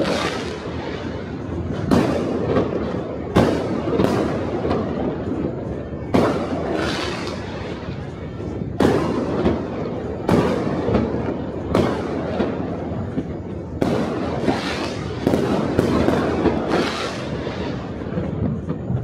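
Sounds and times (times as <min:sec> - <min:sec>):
firework bangs: 0:00.0 - 0:19.0
rumble and crackle of fireworks: 0:00.0 - 0:19.0.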